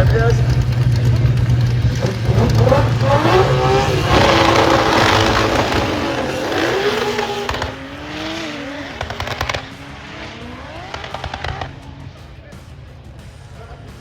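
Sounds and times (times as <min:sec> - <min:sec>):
exhaust crackling pops: 0:00.0 - 0:12.0
race car engine accelerating: 0:00.0 - 0:14.0.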